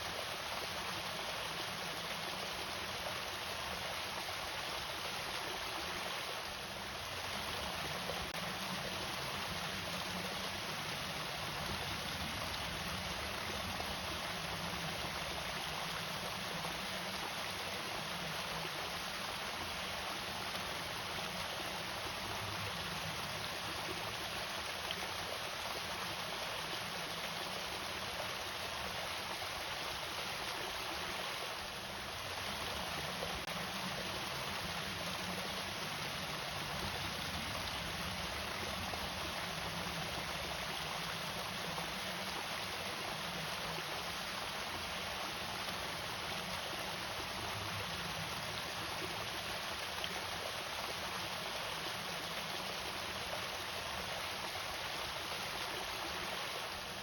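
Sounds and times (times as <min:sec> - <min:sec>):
water splashing over waterfall: 0:00.0 - 0:57.0.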